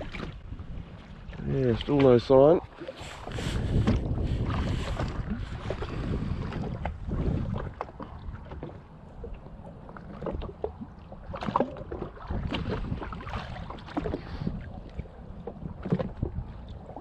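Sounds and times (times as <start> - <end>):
water splashing against jet ski: 0.0 - 17.0
wind buffeting microphone: 0.0 - 17.0.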